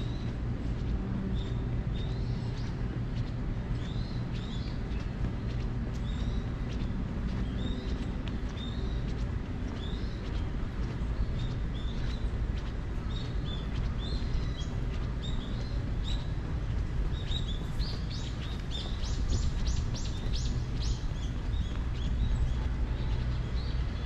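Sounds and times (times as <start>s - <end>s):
birds chirping: 0.0s - 24.0s
low background rumble: 0.0s - 24.0s.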